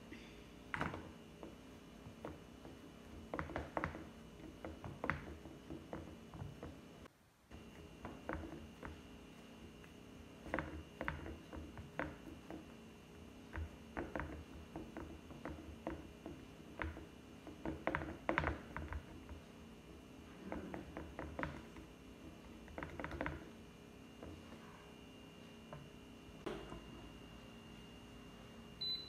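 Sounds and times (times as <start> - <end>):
fingers patting dough in pan: 0.7 - 24.7.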